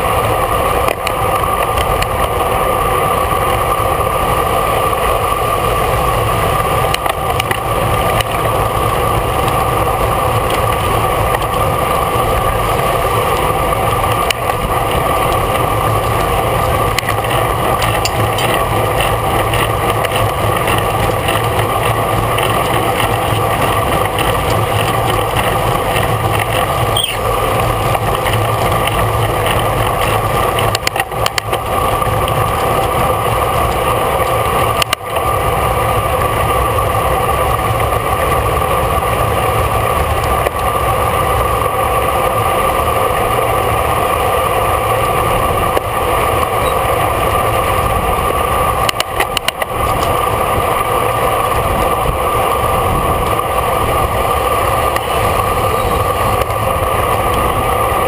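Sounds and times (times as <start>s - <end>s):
bicycle road noise: 0.0s - 58.0s
droning tones: 0.0s - 58.0s
wind noise: 0.0s - 58.0s.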